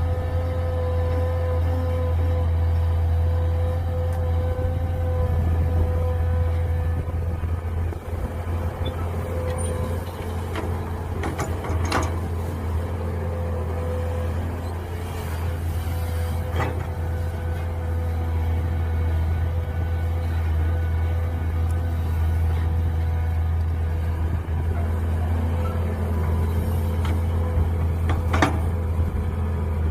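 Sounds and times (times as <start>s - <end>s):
excavator engine running: 0.0s - 29.9s.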